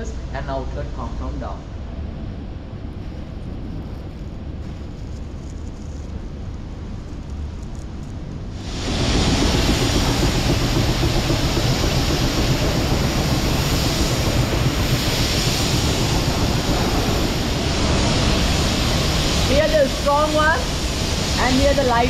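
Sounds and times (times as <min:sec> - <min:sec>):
factory machinery rumble: 0:00.0 - 0:22.0.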